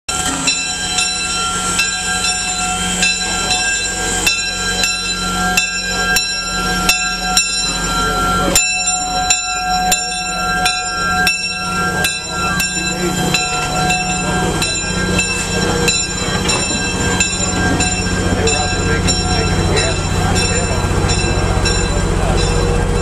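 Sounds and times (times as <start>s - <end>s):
high ringing tone: 0.1s - 23.0s
steam locomotive pulling out: 0.1s - 23.0s.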